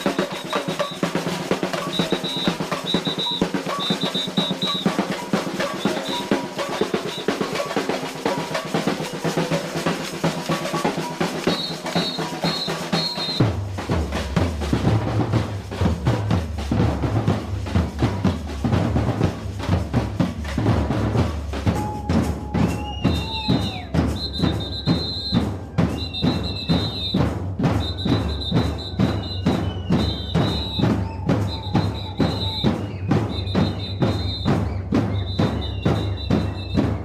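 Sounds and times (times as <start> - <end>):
samba drums playing: 0.0 - 37.0.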